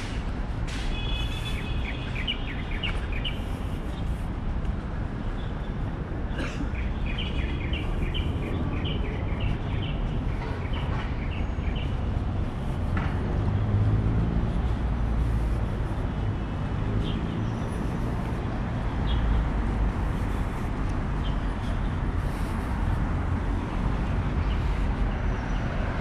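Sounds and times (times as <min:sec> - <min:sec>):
low traffic rumble: 0:00.0 - 0:26.0
small birds chirping: 0:01.0 - 0:04.3, 0:05.0 - 0:26.0.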